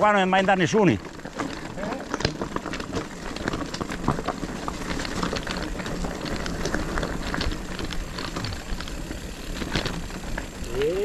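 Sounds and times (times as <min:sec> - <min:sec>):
bike knocking and rattling: 0:00.0 - 0:11.0
tyres crunching on stones: 0:00.0 - 0:11.0.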